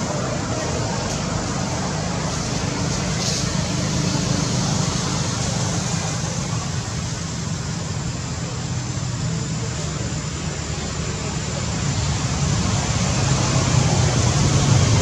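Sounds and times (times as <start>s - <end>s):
road traffic rumble and hiss: 0.0s - 15.0s.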